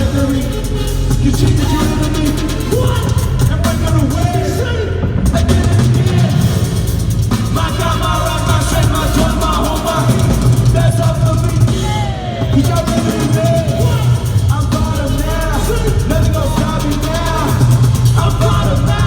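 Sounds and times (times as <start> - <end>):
drum kit: 0.0 - 19.0
voices singing: 0.0 - 19.0.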